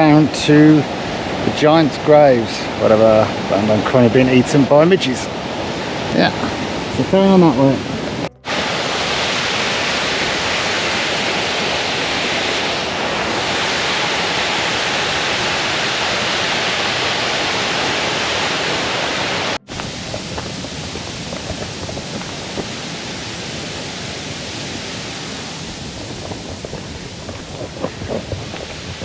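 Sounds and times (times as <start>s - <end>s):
outdoor ambience: 0.0s - 29.0s
waterfall roaring: 0.0s - 29.0s.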